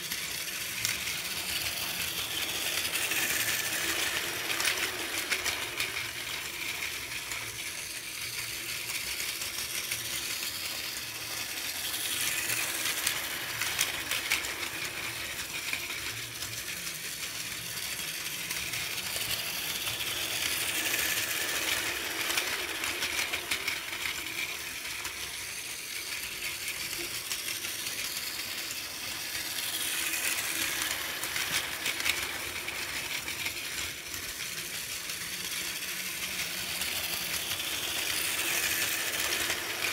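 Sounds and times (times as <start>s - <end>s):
toy train motor whirring: 0.0s - 39.9s
toy train wheels clicking on track: 0.0s - 39.9s.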